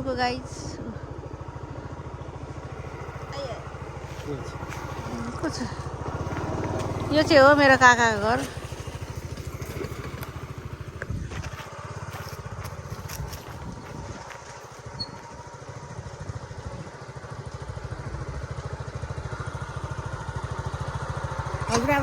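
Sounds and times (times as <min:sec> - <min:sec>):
scooter engine idling: 0:00.0 - 0:22.0.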